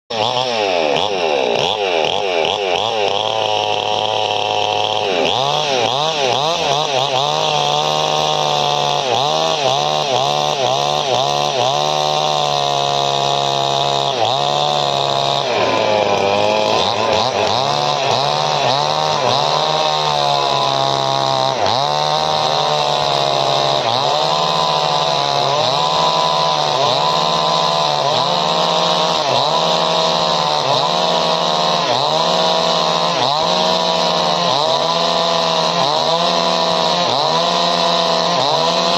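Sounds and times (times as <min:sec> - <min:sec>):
chainsaw engine revving: 0:00.1 - 0:38.9.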